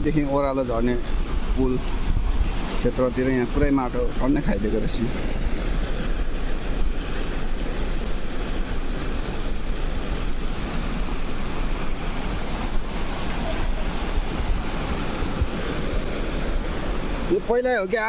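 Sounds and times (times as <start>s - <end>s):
rushing floodwater: 0.0s - 18.0s
wind rumbling on microphone: 0.0s - 18.0s.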